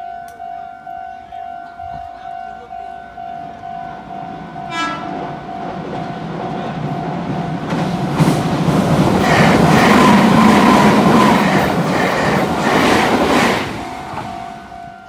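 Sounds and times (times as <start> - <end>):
electric train passing over bridge: 0.0 - 15.0.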